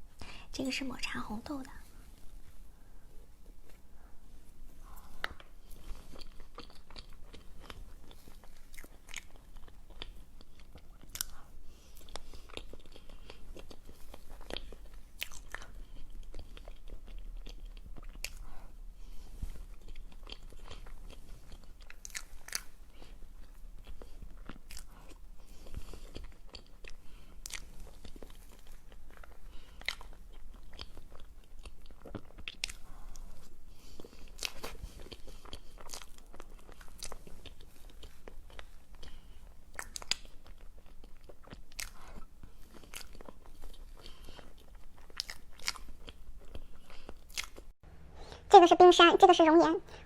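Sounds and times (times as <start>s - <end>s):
person biting and chewing: 5.0s - 18.6s, 19.4s - 47.7s.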